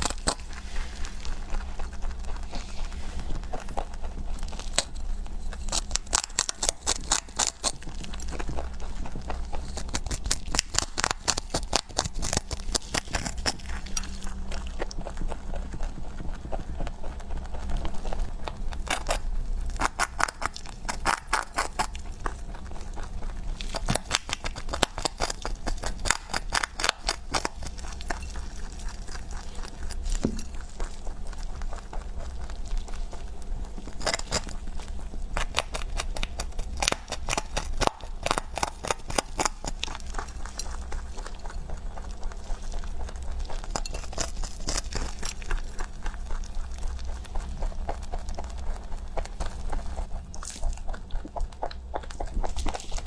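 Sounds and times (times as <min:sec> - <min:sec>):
rabbit crunching food: 0:00.0 - 0:53.0
steady low hum: 0:00.0 - 0:53.0.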